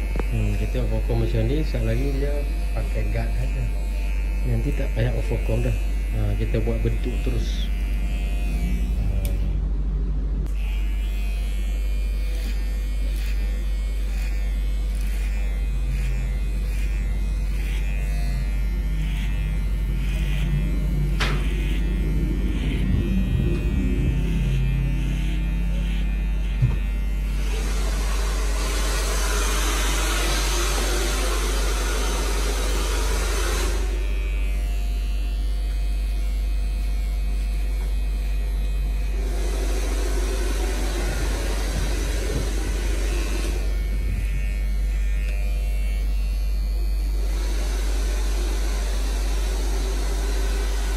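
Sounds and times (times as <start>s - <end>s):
hair clipper buzzing: 0.0s - 9.7s, 10.4s - 50.9s.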